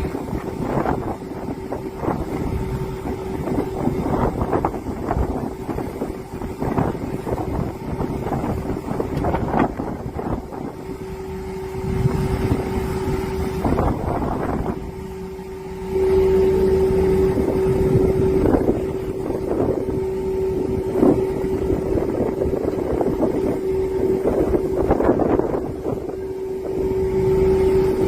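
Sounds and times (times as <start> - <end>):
steady humming tone: 0.0 - 28.0
wind buffeting microphone: 0.0 - 28.0.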